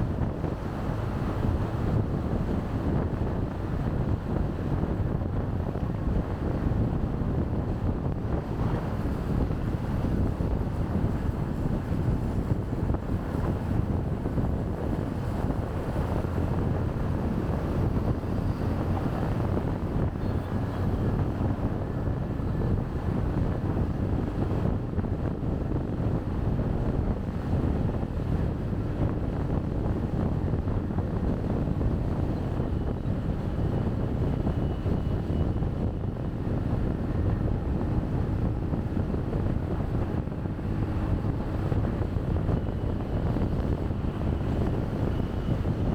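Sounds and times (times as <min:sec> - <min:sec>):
motorbike engine hum: 0:00.0 - 0:45.9
street traffic: 0:00.0 - 0:45.9
wind buffeting microphone: 0:00.0 - 0:45.9.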